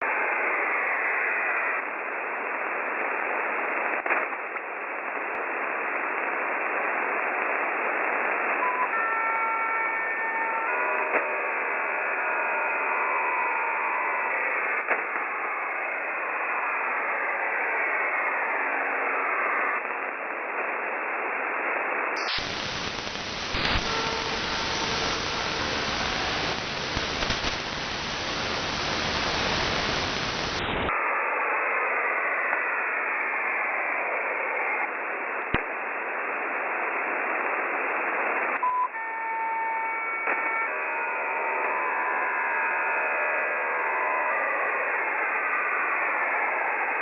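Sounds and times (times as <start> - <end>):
shortwave radio static hiss: 0.0 - 8.6, 10.3 - 38.6, 40.7 - 47.0.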